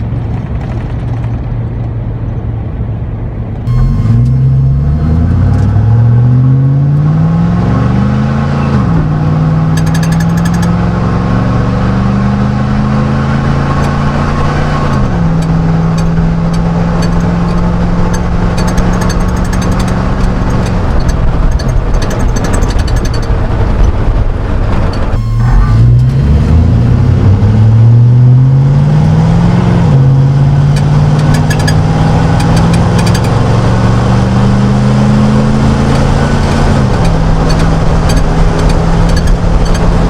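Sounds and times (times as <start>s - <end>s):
truck engine accelerating: 3.7s - 40.0s.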